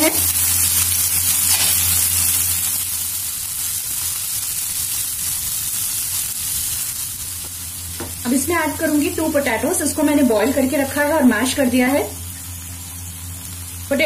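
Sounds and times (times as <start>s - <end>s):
peas sizzling in oil: 0.0s - 14.0s.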